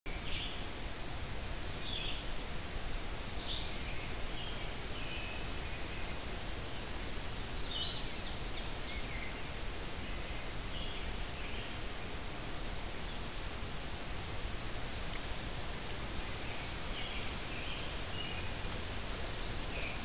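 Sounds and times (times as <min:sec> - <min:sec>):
bird calls and song: 0:00.1 - 0:00.7, 0:01.6 - 0:02.3, 0:03.3 - 0:11.9, 0:13.0 - 0:15.4, 0:16.3 - 0:20.0
steady hiss: 0:00.1 - 0:20.0.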